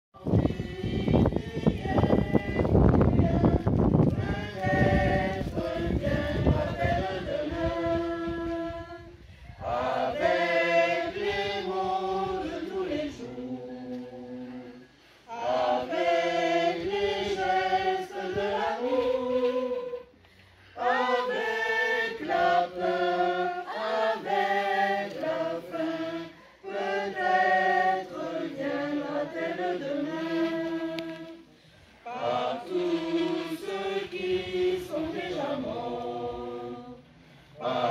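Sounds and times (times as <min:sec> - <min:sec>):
choir singing unaccompanied: 0:00.2 - 0:37.9.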